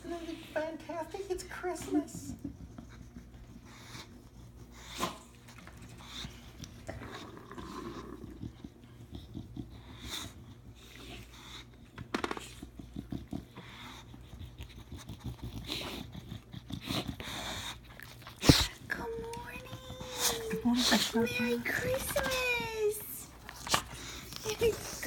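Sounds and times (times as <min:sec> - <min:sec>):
dog sniffing and breathing: 0:00.0 - 0:25.0.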